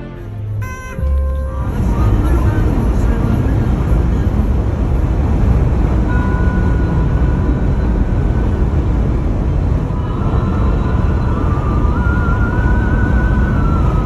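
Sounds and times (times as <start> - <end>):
faint steady tones: 0.0 - 14.0
vehicle engine rumble: 0.0 - 14.0.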